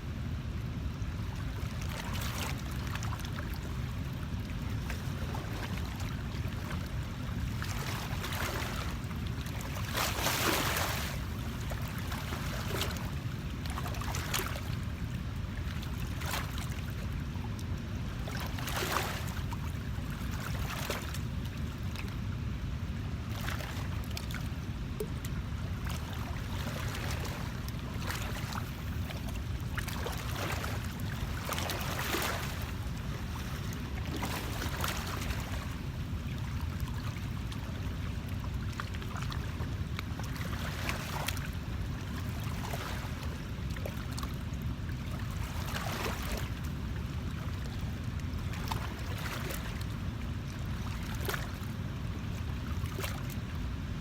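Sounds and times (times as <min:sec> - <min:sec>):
water lapping and splashing: 0:00.2 - 0:54.0.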